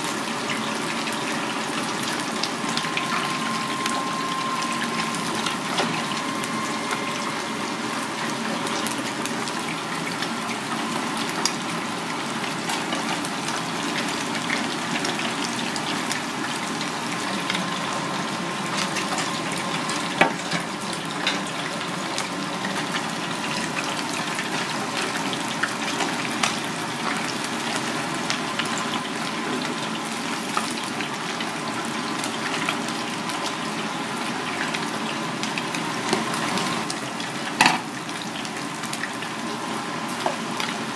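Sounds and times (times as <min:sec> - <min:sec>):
fish deep-frying in oil: 0:00.0 - 0:40.9.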